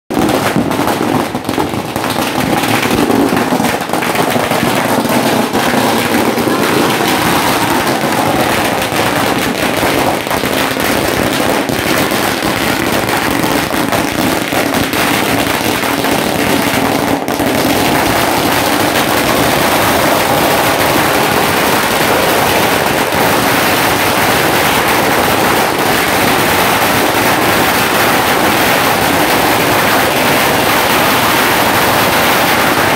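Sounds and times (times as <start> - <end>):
firecrackers crackling: 0.1 - 32.9.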